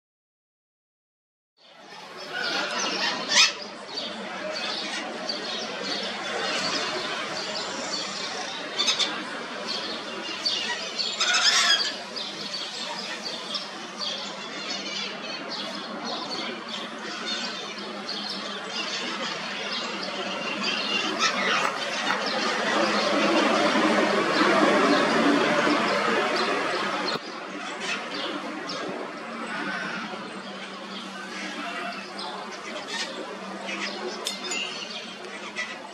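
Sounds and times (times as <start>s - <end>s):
birds chirping: 1.6s - 35.9s
outdoor background noise: 1.6s - 35.9s.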